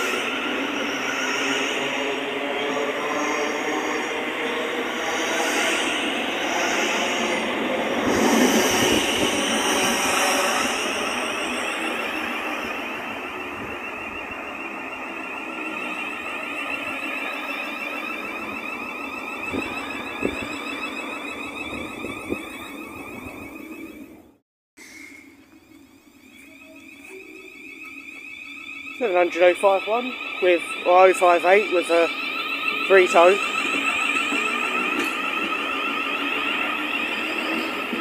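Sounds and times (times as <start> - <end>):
train wheels rumbling: 0.0 - 24.2, 24.8 - 38.0.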